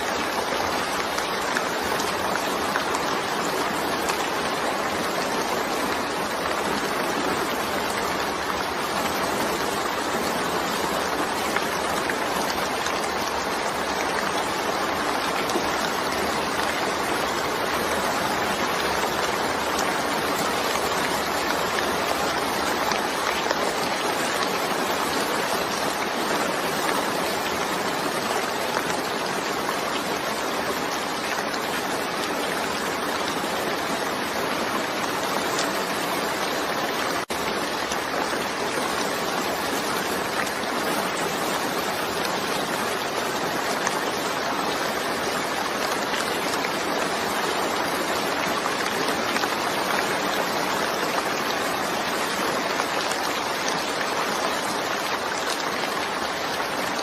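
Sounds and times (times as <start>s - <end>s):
steady downpour of rain: 0.0s - 57.0s.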